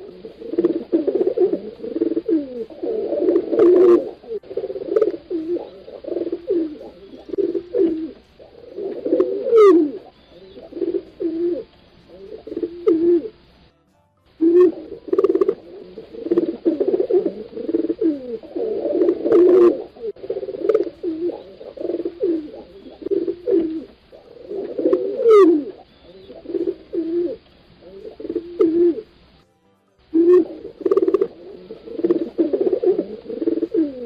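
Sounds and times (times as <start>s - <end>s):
pigeons cooing: 0.0s - 13.4s, 14.4s - 29.2s, 30.1s - 34.0s.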